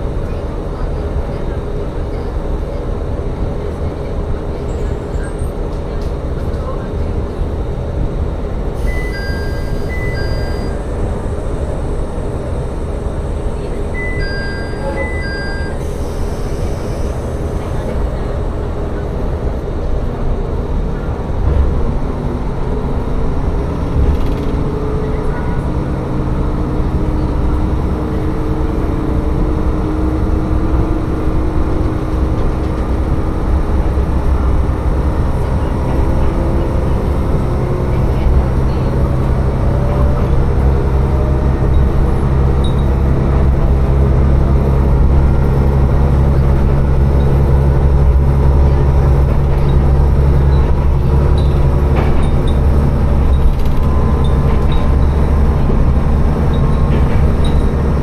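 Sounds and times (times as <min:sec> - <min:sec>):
diesel railcar engine: 0:00.0 - 0:58.0
rail rumble: 0:00.0 - 0:58.0.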